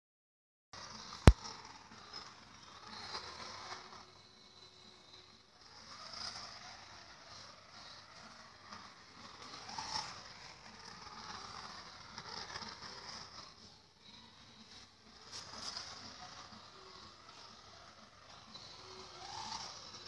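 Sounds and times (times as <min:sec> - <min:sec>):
toy train rattling whirr: 0:00.8 - 0:20.0.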